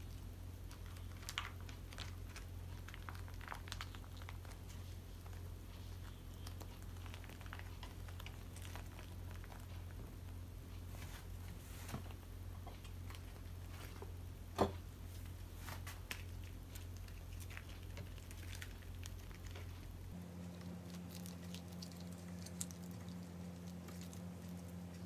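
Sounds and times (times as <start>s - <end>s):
low steady hum: 0.0s - 25.0s
rice paper taps and clicks: 0.0s - 25.0s.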